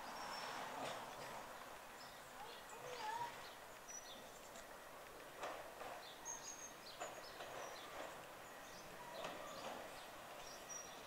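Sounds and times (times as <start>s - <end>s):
birds calling and chirping: 0.0s - 11.0s.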